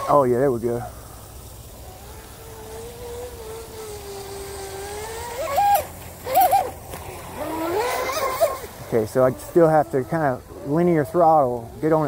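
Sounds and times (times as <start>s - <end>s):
electric boat motor whining: 0.0s - 12.0s.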